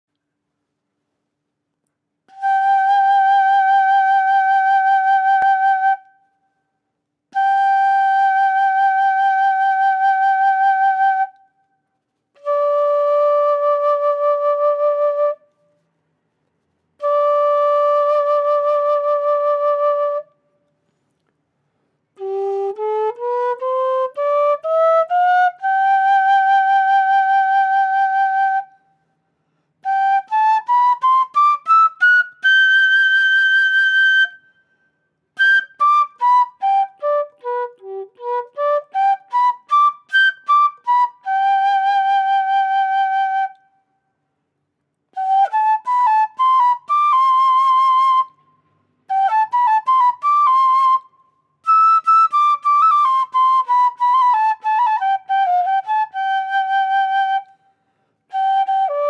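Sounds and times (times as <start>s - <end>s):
cane flute playing: 2.3s - 6.4s, 7.3s - 15.8s, 17.0s - 20.6s, 22.2s - 29.1s, 29.8s - 44.0s, 45.1s - 59.0s.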